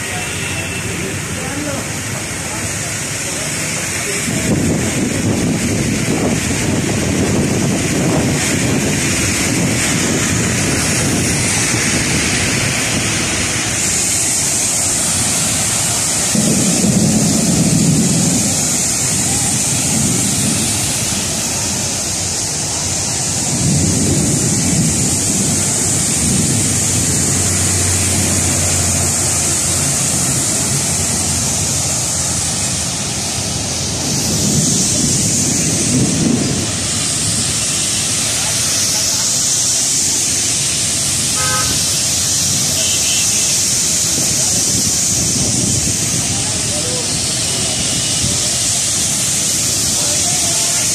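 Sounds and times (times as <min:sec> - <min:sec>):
heavy rain: 0:00.0 - 0:50.9
traffic on wet road: 0:00.0 - 0:50.9.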